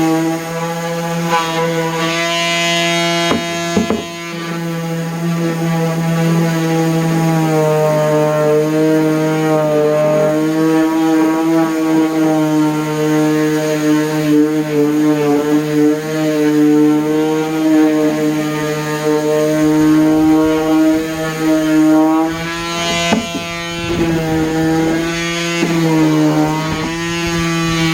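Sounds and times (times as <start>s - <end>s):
orbital sander motor hum: 0.0s - 27.9s.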